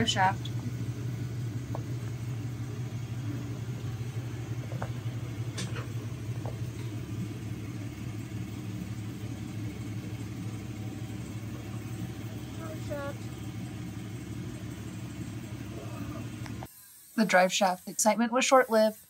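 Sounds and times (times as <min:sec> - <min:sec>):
low mechanical rumble: 0:00.0 - 0:16.7.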